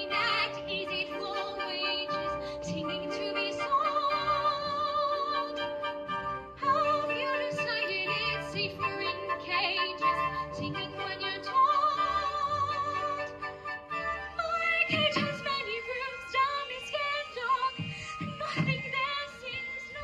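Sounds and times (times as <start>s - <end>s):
woman singing soprano: 0.0s - 5.7s, 6.6s - 13.4s, 14.4s - 20.0s
instrumental accompaniment: 0.0s - 20.0s.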